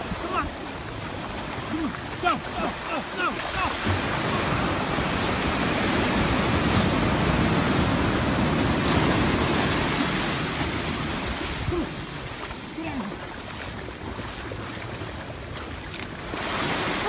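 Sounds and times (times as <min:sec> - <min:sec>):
ocean surf washing in: 0:00.0 - 0:13.5, 0:16.2 - 0:17.0.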